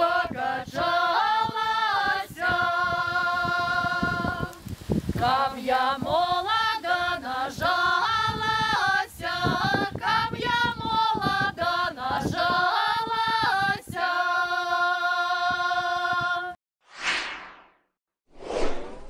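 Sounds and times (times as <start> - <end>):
women's choir singing unaccompanied: 0.0 - 16.6.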